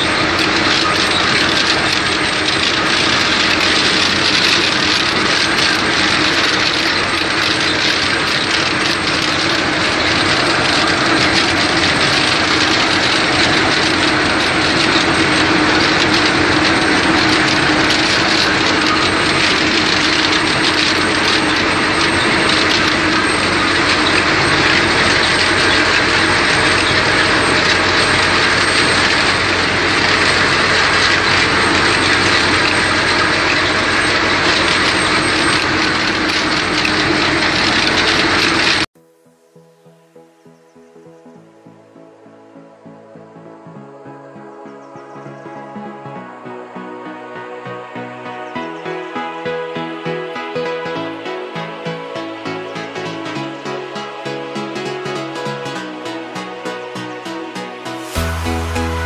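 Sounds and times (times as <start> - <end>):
conveyors rattling: 0.0 - 38.9, 48.0 - 59.0
machine hum: 0.0 - 38.9, 48.4 - 59.0.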